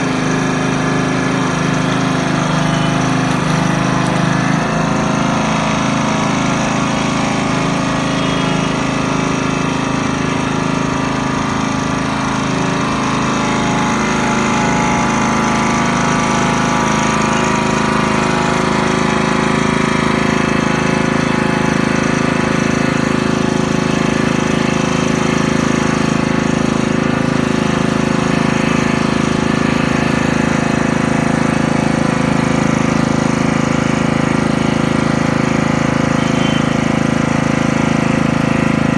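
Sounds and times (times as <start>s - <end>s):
petrol engine driving crusher: 0.0s - 38.9s.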